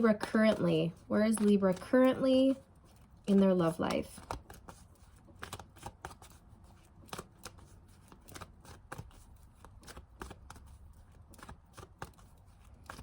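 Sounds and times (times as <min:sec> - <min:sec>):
cards being shuffled: 0:00.1 - 0:13.0.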